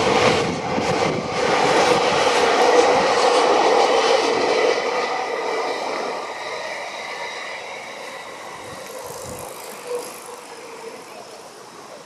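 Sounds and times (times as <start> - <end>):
electric train rail noise: 0.0 - 12.0.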